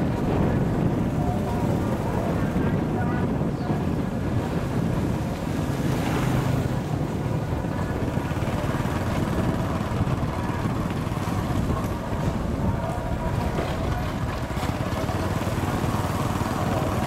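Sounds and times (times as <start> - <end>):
motorbike engine rumble: 0.0 - 17.0
wind on microphone: 0.0 - 17.0.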